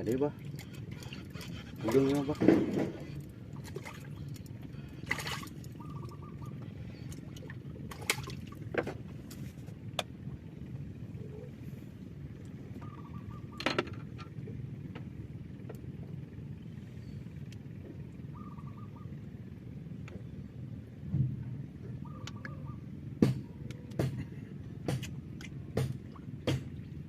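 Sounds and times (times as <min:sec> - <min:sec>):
boat motor droning: 0:00.0 - 0:27.0.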